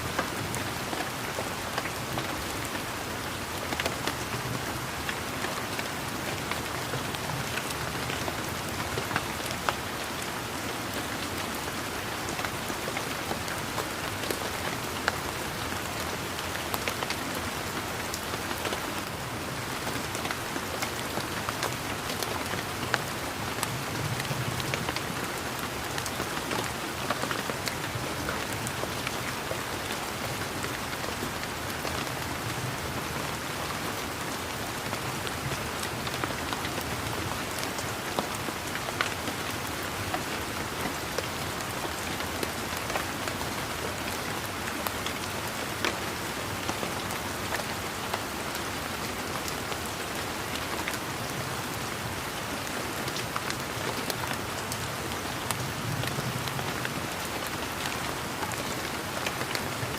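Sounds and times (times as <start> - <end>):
steady rain: 0.0 - 59.9
raindrops pattering: 0.1 - 59.9.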